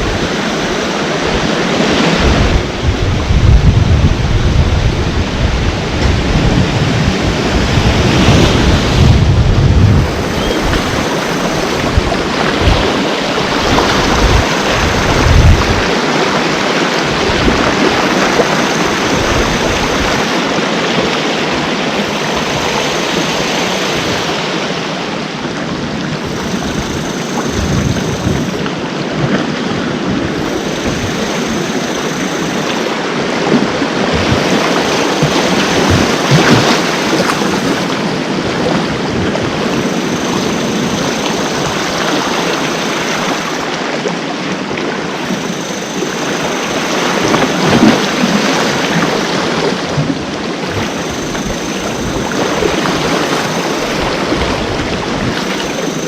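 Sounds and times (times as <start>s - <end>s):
ocean surf washing ashore: 0.0s - 56.0s
wind buffeting microphone: 0.0s - 56.0s.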